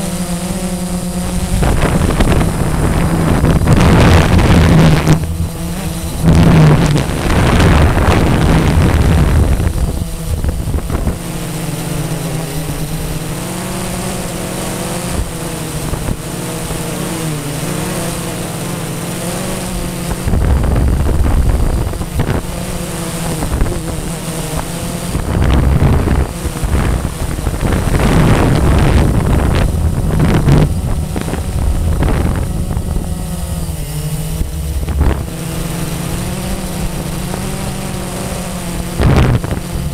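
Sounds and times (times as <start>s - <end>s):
quadcopter propellers whirring: 0.0s - 39.9s
wind buffeting microphone: 0.0s - 39.9s.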